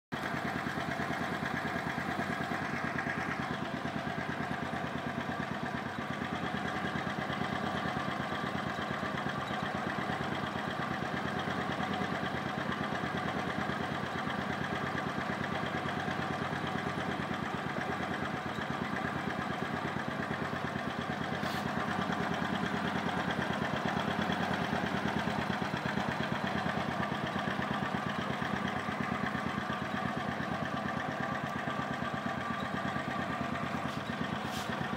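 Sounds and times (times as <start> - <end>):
scooter engine idling: 0.1 - 34.9.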